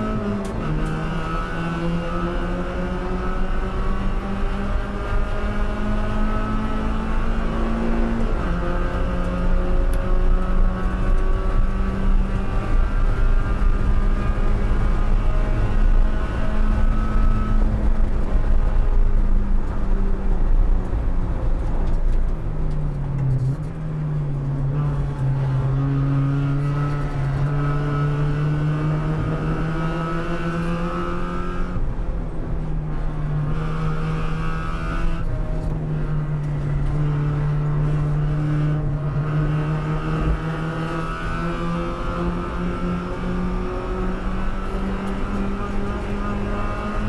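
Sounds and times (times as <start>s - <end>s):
race car engine revving: 0.0s - 21.1s, 24.5s - 47.0s
road and wind noise: 0.0s - 47.0s.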